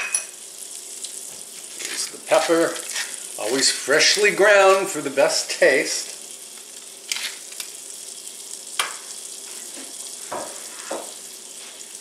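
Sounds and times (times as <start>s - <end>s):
butter and oil sizzling in a skillet: 0.0s - 12.0s.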